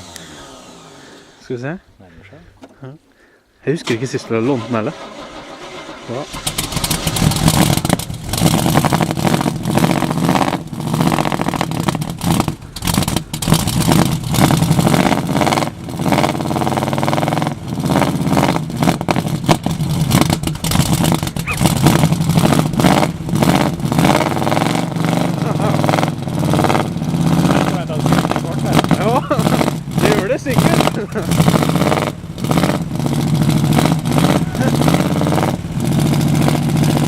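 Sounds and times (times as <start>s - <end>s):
car engine revving unevenly: 0.0s - 1.7s, 4.3s - 37.0s.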